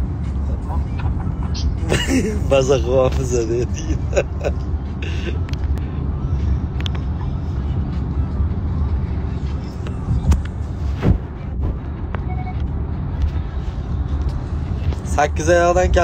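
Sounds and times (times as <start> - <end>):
car rumbling from inside cabin: 0.0 - 16.0.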